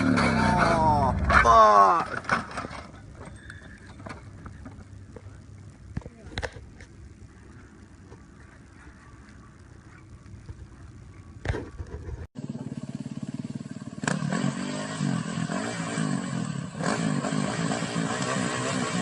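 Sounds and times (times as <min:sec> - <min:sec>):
motorcycle engine running: 0:03.6 - 0:19.0.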